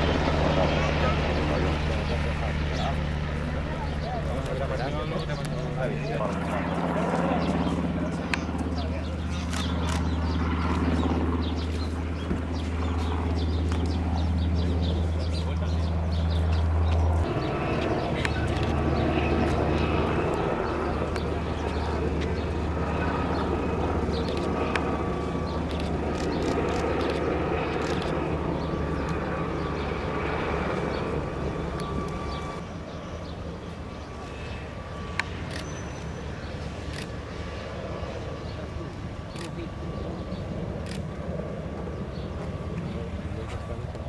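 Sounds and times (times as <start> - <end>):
helicopter rotor and engine: 0.0 - 44.0
high turbine whine: 0.0 - 44.0.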